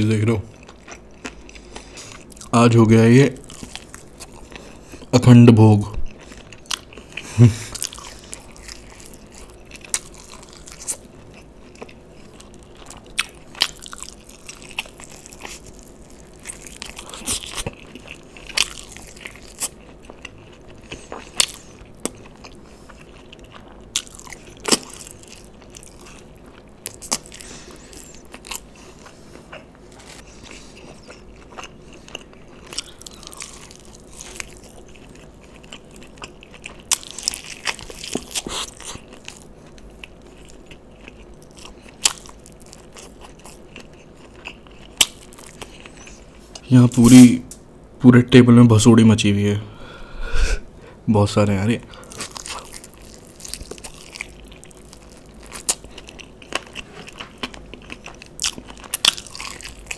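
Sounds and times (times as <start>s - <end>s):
crunching and chewing food: 0.0s - 47.6s, 51.7s - 59.9s.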